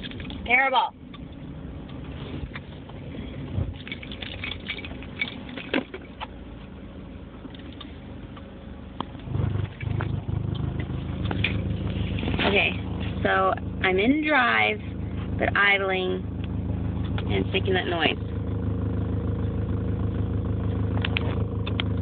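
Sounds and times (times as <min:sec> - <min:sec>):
low car drone: 0:00.0 - 0:22.0.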